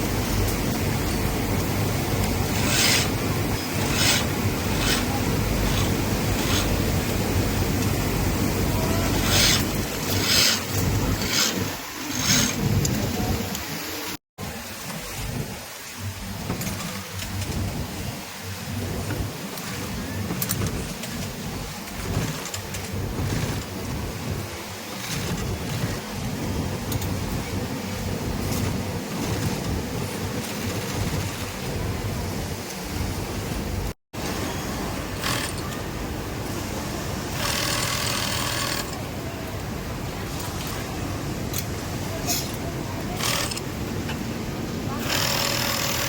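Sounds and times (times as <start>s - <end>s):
industrial sewing machines clattering: 0.0s - 13.5s, 16.2s - 17.8s, 18.7s - 32.2s, 34.4s - 44.2s, 44.8s - 46.0s.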